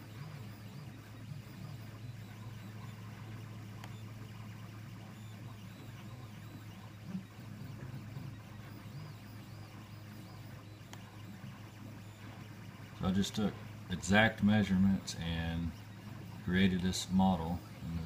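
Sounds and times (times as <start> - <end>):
printer hum: 0.0 - 18.0
stepper motors whirring: 0.0 - 18.0.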